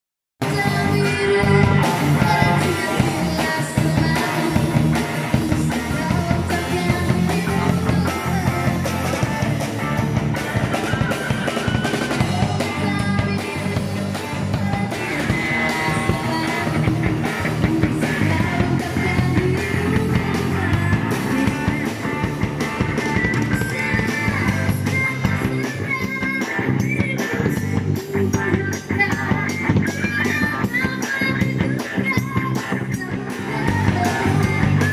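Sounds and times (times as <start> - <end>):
woman singing: 0.4 - 10.0, 12.2 - 22.0, 22.9 - 34.9
drum kit with cymbals: 0.4 - 34.9
electric guitar: 0.4 - 34.9.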